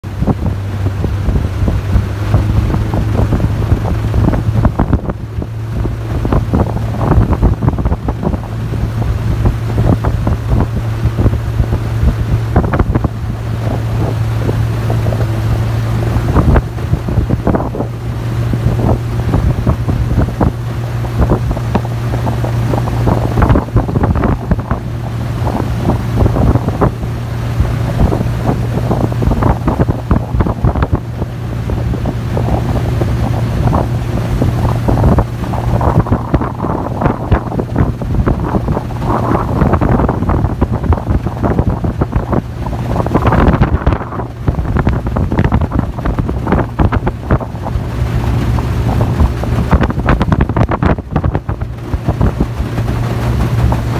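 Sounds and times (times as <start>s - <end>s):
hull knocking on water: 0.0s - 53.9s
outboard motor running: 0.0s - 53.9s
wind on microphone: 0.0s - 53.9s.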